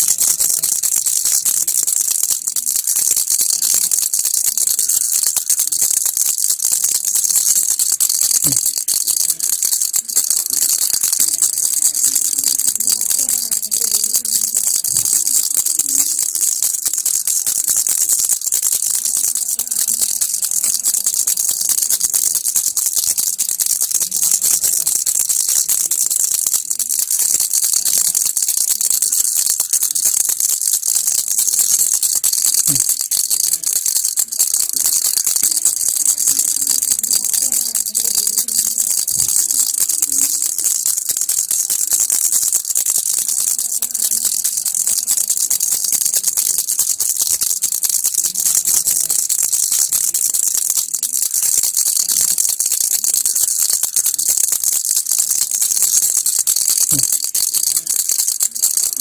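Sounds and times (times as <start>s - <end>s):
baby rattle shaken: 0.0s - 59.0s.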